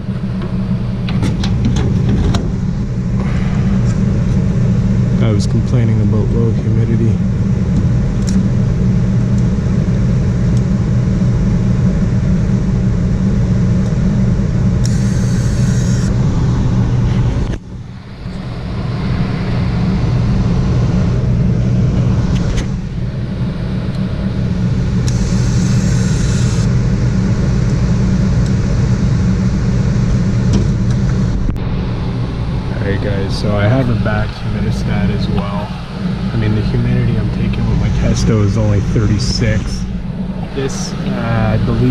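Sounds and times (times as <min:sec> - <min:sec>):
gas furnace humming: 0:00.0 - 0:41.9.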